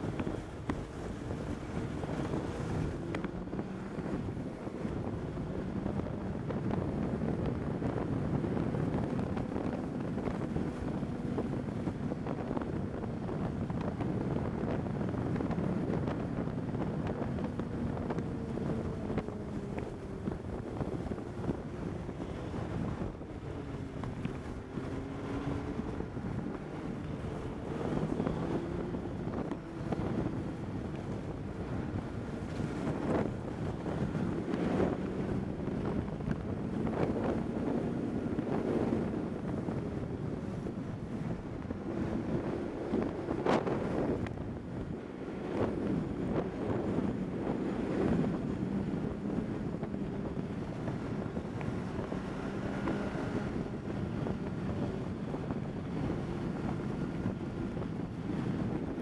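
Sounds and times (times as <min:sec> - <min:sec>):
snowmobile engine running: 0:00.0 - 0:59.0
wind buffeting microphone: 0:00.0 - 0:59.0.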